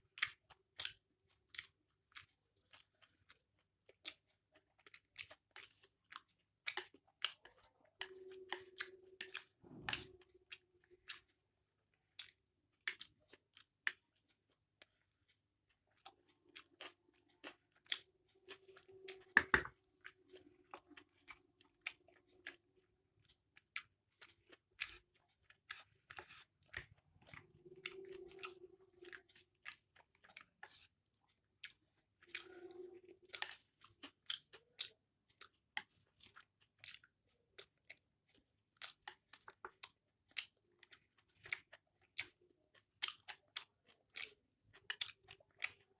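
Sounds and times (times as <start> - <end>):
chewing noodles: 0.0 - 45.9.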